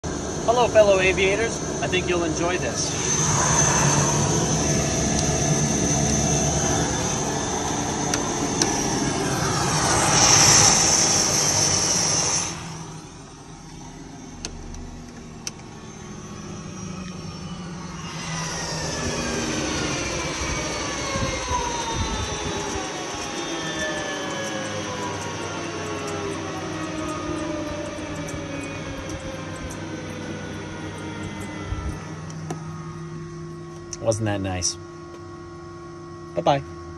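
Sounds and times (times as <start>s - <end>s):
turboprop engine whine: 0.0s - 36.9s.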